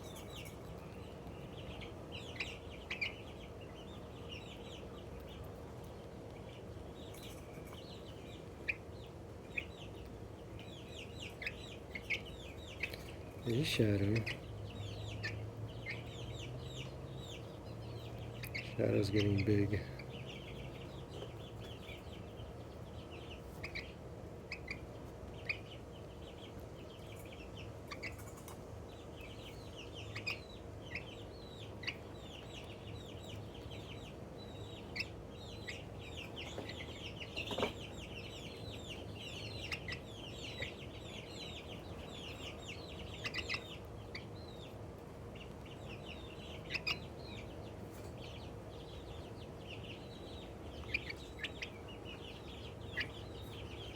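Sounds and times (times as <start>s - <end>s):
chick chirping and peeping: 0.0s - 53.9s.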